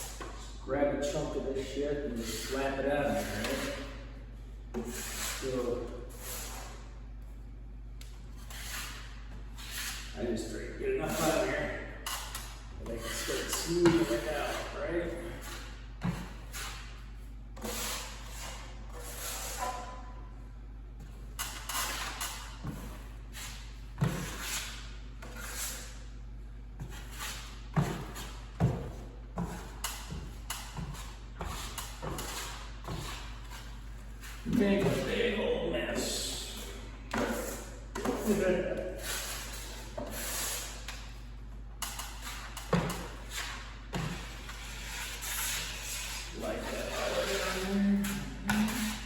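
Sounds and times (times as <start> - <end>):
drywall knife scraping: 1.6 - 4.0, 4.7 - 6.9, 8.3 - 17.0, 17.6 - 20.1, 21.0 - 26.1, 26.8 - 41.2, 41.8 - 49.0.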